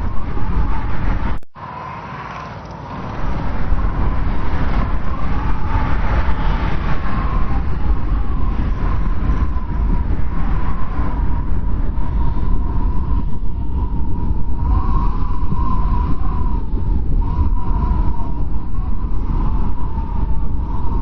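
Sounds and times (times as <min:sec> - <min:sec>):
strong wind rumbling and whistling: 0:00.0 - 0:21.0.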